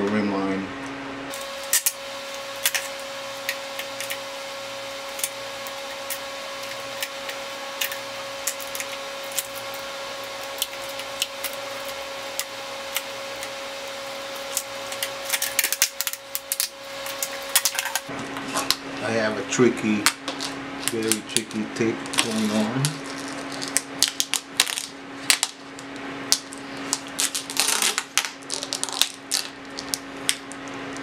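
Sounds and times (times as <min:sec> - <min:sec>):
steady background hum: 0:00.0 - 0:31.0
rim tape crackling: 0:04.9 - 0:19.1, 0:20.3 - 0:31.0.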